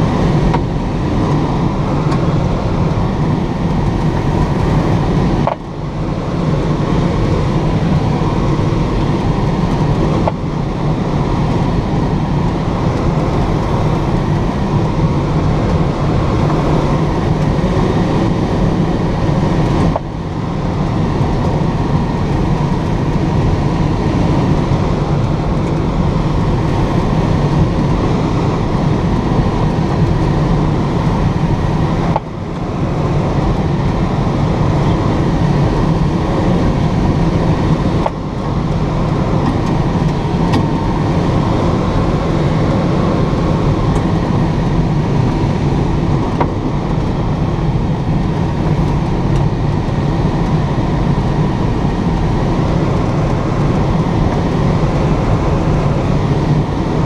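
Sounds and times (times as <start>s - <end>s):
airflow rushing over glider canopy: 0.0s - 57.0s.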